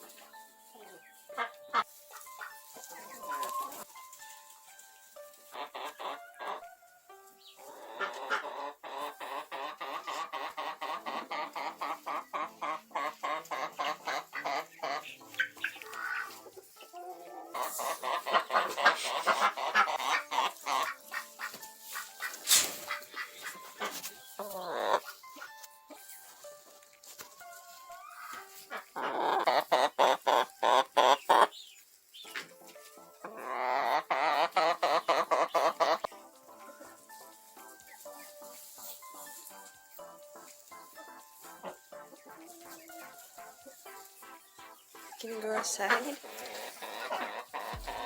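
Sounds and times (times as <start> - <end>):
poultry calling: 0.0 - 3.9, 5.4 - 26.3, 27.8 - 32.6, 33.2 - 39.5, 40.2 - 48.0
background music: 0.0 - 48.0.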